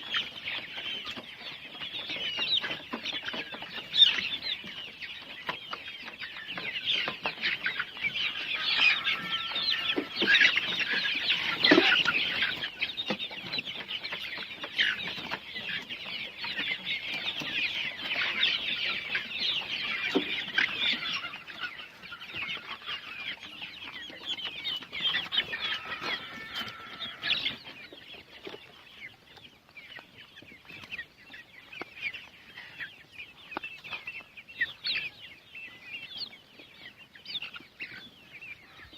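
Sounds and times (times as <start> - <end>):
chickens clucking and cheeping: 0.0 - 38.9.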